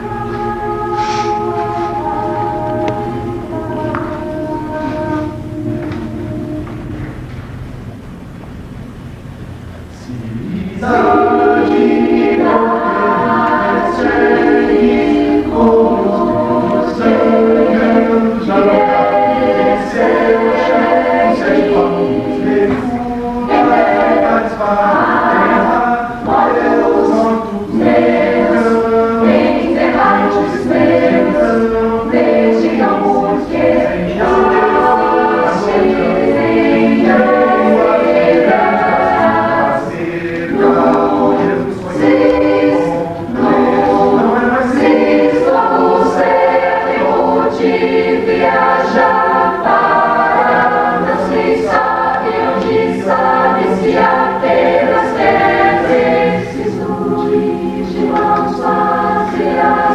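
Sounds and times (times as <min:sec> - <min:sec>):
choir singing a cappella: 0:00.0 - 0:07.6, 0:09.8 - 0:59.9.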